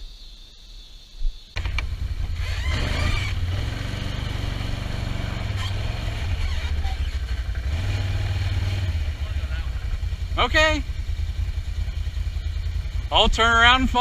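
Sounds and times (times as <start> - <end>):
vehicle engine idling: 1.6 - 14.0.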